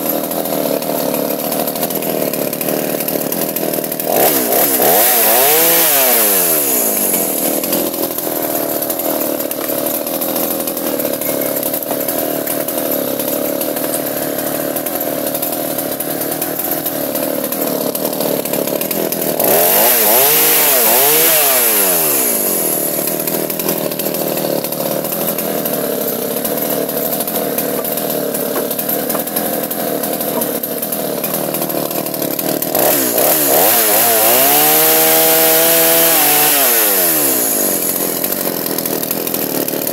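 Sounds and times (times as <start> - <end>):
chainsaw running under load: 0.0 - 39.9.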